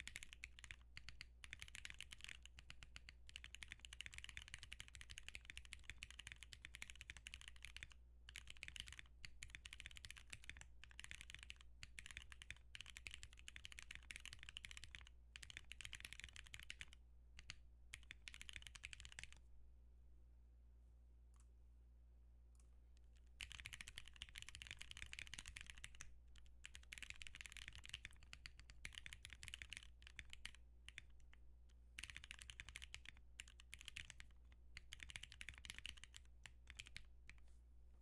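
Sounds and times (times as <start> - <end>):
typing on mechanical keyboard: 0.0 - 19.4, 23.3 - 31.4, 32.0 - 37.4.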